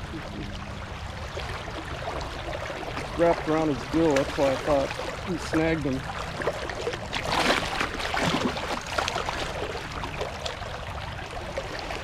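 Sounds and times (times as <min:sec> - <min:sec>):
fish splashing in water: 0:00.0 - 0:12.0
stream flowing: 0:00.0 - 0:12.0.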